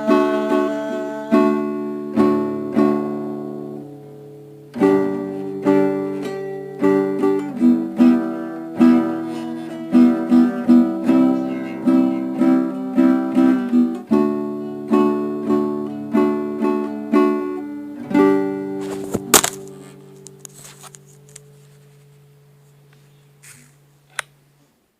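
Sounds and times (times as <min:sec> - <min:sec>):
plucked guitar notes and chords: 0:00.0 - 0:24.3.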